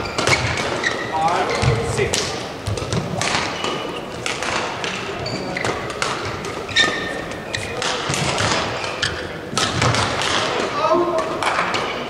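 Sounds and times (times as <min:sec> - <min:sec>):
shoes squeaking on court: 0:00.0 - 0:10.7.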